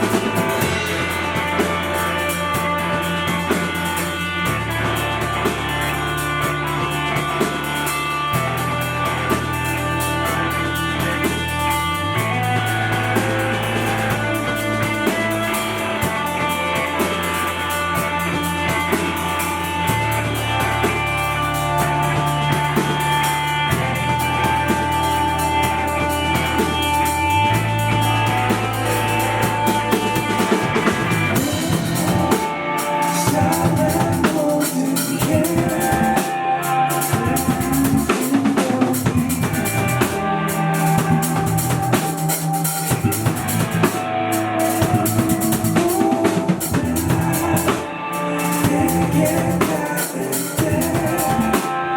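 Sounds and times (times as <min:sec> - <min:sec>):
band playing instrumental rock: 0:00.0 - 0:51.9
drums: 0:00.0 - 0:51.9
held bass notes: 0:00.0 - 0:51.9.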